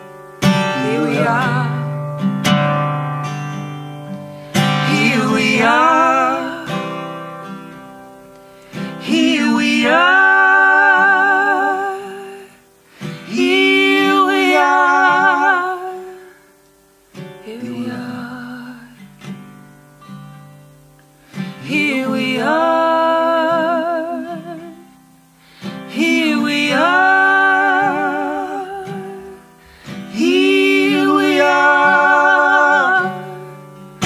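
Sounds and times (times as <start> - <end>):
person singing with vibrato: 0.0 - 2.3, 4.4 - 8.0, 8.6 - 16.6, 17.2 - 19.3, 21.3 - 34.0
acoustic guitar: 0.0 - 34.0.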